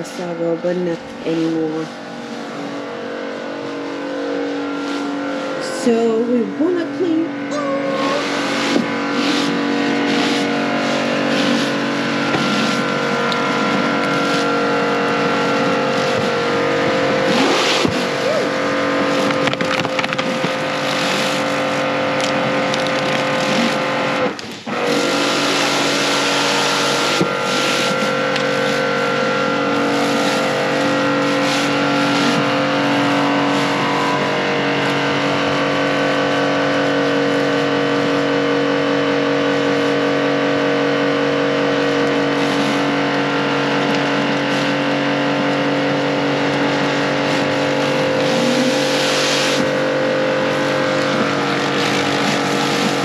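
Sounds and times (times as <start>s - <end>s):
pressure washer motor whine: 0.0s - 53.0s.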